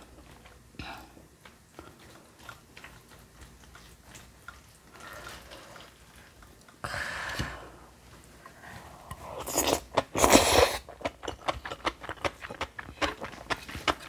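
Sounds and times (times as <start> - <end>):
person chewing: 0.0 - 6.8, 8.9 - 14.0.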